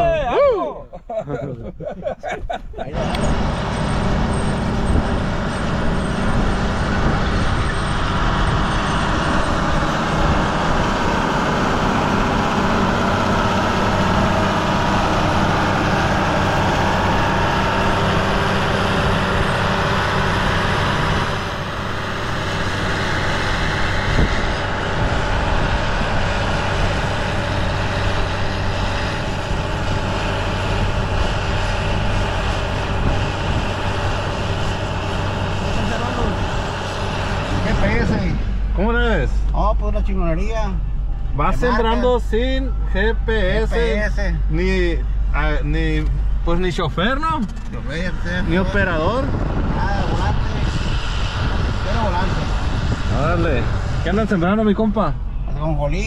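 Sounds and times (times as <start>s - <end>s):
tractor diesel engine under load: 2.9s - 49.8s.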